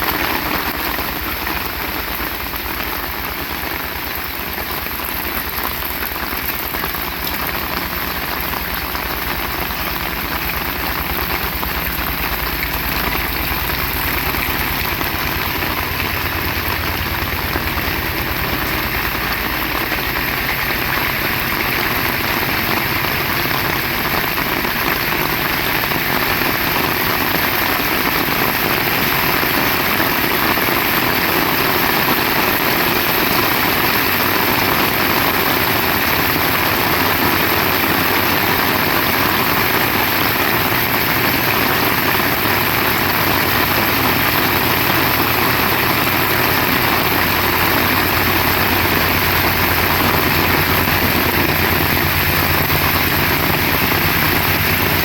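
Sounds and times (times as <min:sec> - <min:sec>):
heavy rain falling: 0:00.0 - 0:55.0
low engine hum: 0:00.0 - 0:55.0.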